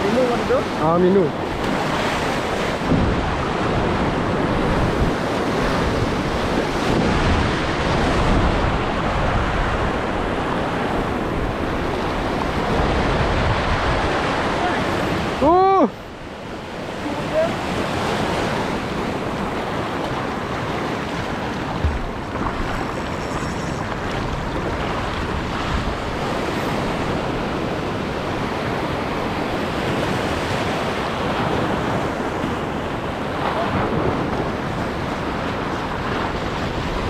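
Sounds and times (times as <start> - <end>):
surf washing over reef: 0.0 - 37.0
wind buffeting microphone: 0.0 - 37.0.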